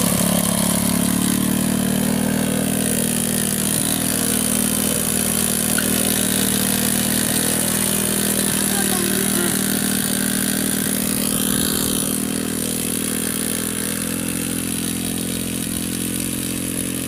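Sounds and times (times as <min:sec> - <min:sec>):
small motorcycle engine running: 0:00.0 - 0:17.0.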